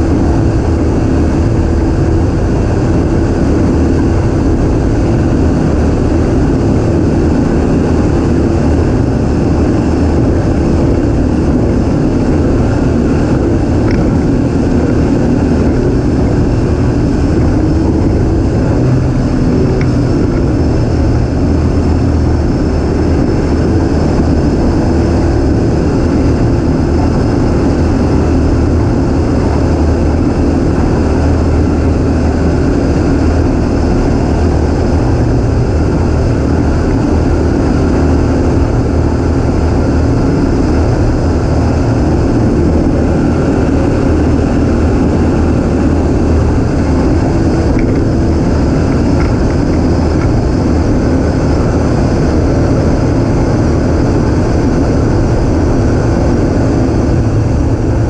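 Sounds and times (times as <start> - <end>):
outboard motor running: 0.0 - 58.0
wind and water rushing: 0.0 - 58.0.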